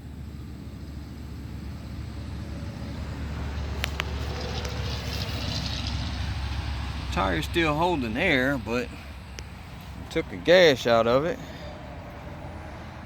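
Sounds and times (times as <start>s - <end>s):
car passing road noise: 0.0s - 13.0s
steady low rumble: 0.0s - 13.0s.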